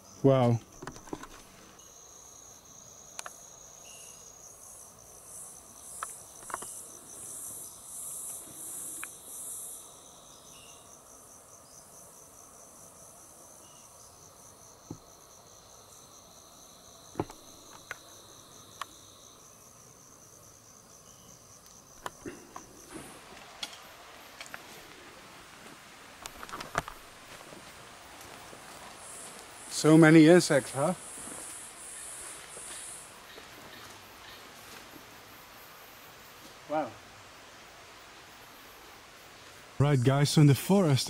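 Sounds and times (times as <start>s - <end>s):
high-pitched insect trill: 0.0s - 25.1s, 25.8s - 41.0s
lower insect trill: 0.0s - 41.0s.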